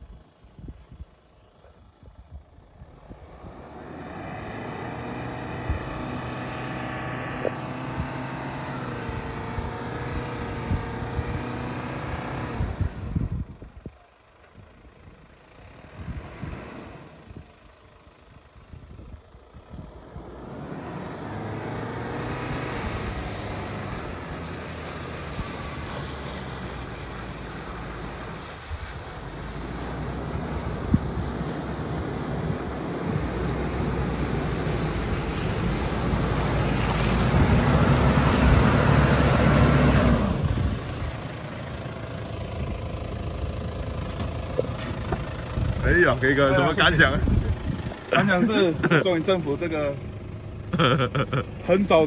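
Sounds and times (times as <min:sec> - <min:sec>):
diesel engine revving: 0:01.0 - 0:52.0.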